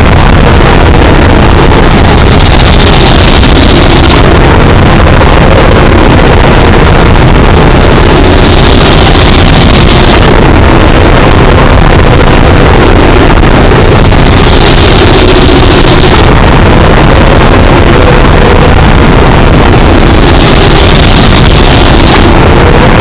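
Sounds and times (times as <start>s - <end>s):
wall of distorted noise: 0.0s - 23.0s.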